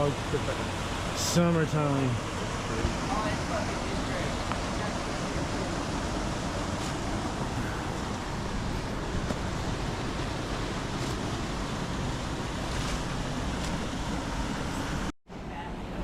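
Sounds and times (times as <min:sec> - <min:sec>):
waterfall roaring: 0:00.0 - 0:15.1.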